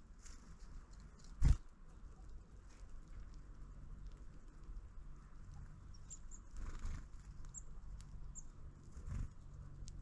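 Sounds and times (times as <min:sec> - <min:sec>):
low steady rumble: 0:00.0 - 0:10.0
birds pecking on feeder: 0:00.1 - 0:10.0.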